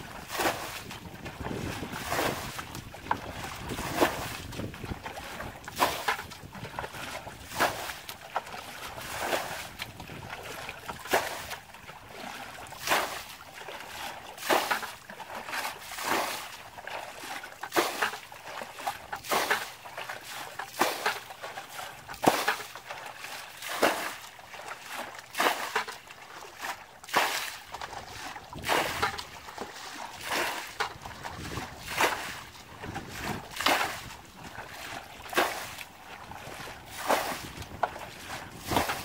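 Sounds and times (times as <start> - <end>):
bucket scooping water: 0.0 - 39.0
water splashing: 0.0 - 39.0.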